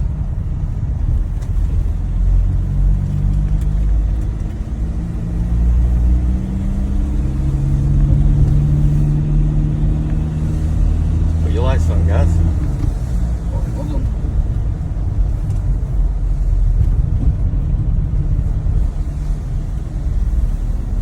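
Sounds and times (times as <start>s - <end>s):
van engine running: 0.0s - 21.0s.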